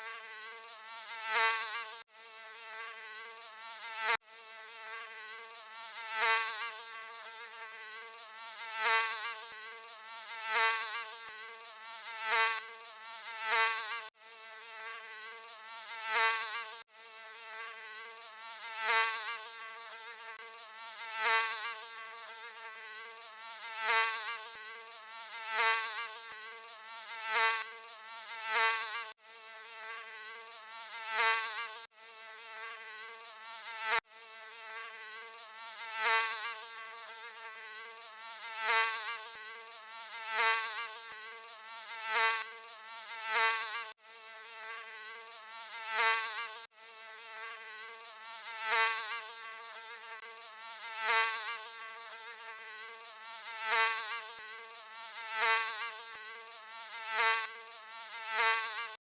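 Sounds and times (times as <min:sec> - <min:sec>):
mosquito buzzing: 0:00.0 - 0:59.0.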